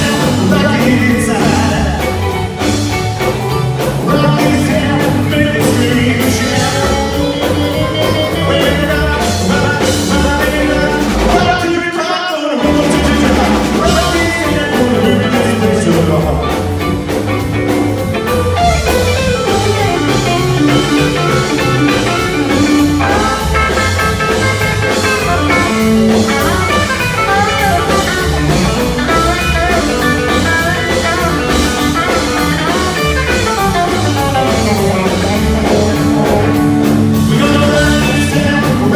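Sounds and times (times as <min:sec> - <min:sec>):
upright bass: 0:00.0 - 0:11.9, 0:12.6 - 0:38.9
drum kit: 0:00.0 - 0:38.9
electric guitar: 0:00.0 - 0:38.9
piano: 0:00.0 - 0:38.9.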